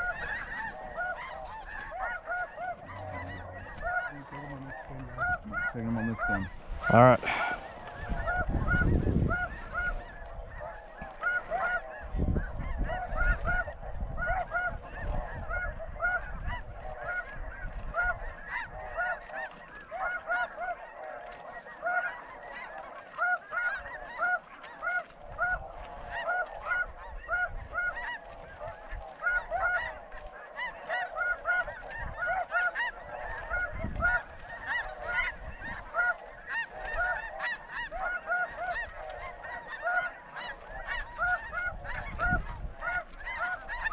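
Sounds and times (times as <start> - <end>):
geese honking: 0.0 - 43.9.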